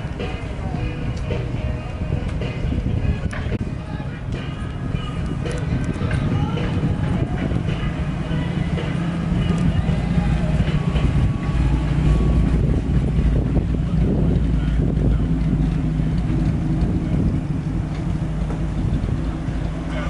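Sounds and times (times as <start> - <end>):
engine idling hum: 0.0 - 20.0
wind buffeting microphone: 0.0 - 20.0.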